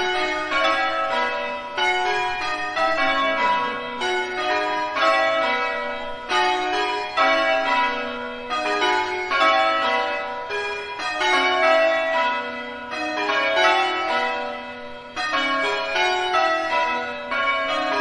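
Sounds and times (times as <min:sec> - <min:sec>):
church bells ringing a peal: 0:00.0 - 0:18.0.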